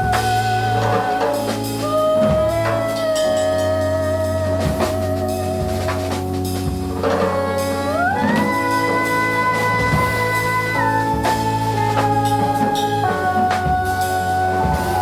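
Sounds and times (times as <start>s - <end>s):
double bass: 0.0s - 15.0s
held melody note with vibrato: 0.0s - 15.0s
light drum kit strokes: 0.0s - 15.0s.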